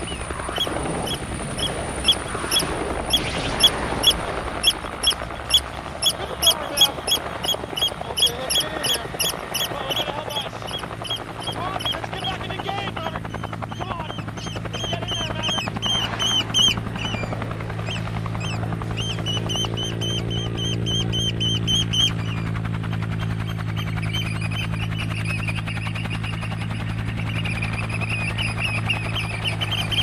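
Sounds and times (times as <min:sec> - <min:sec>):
low engine hum: 0:00.0 - 0:30.0
oystercatchers piping: 0:00.0 - 0:30.0.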